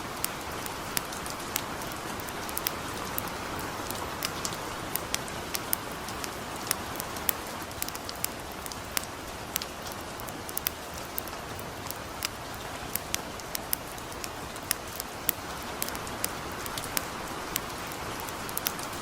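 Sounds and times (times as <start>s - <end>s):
campfire crackling: 0.0s - 19.0s
light rain falling: 0.0s - 19.0s.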